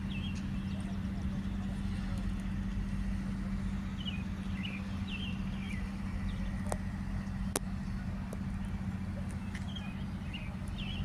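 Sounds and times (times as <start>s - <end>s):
constant low hum: 0.0s - 11.0s
low outdoor rumble: 0.0s - 11.0s.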